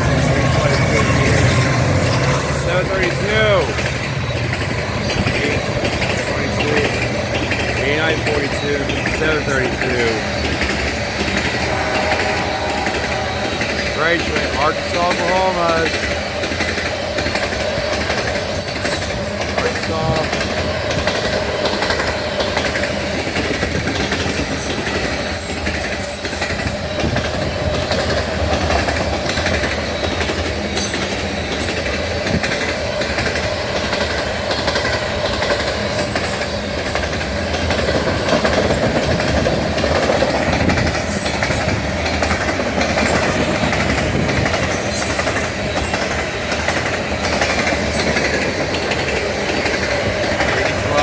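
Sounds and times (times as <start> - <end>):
freight train rumble: 0.0 - 51.0
wheels clattering over rail joints: 0.0 - 51.0.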